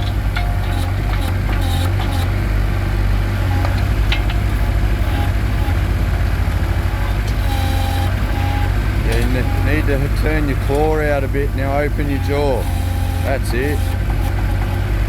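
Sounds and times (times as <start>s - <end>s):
digger engine rumbling: 0.0s - 15.0s.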